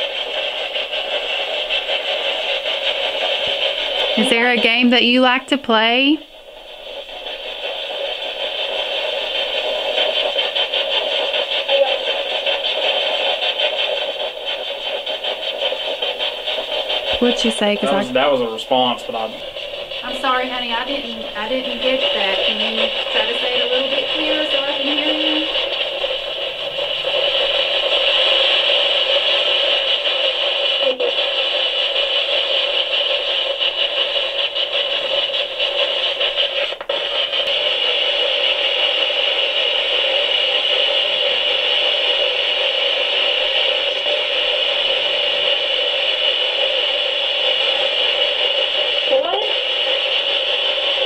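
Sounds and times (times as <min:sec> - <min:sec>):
loud radio static: 0:00.0 - 0:06.3, 0:06.9 - 0:51.0.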